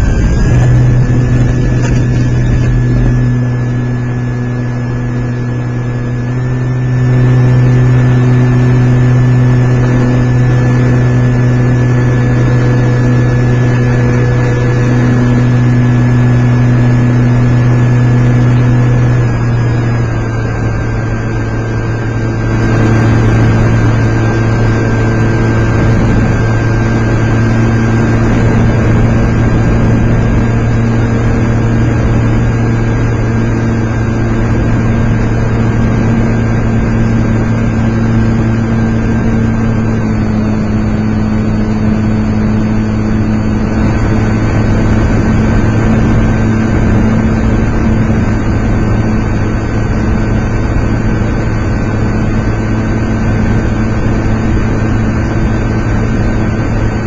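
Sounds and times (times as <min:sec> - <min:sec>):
model airplane motor running: 0:00.0 - 0:57.0.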